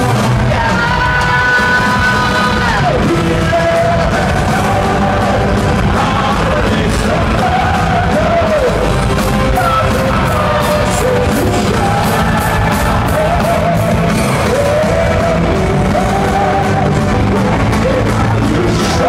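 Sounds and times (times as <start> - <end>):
power metal band playing: 0.0 - 19.0
singer's long held vocals: 0.0 - 19.0.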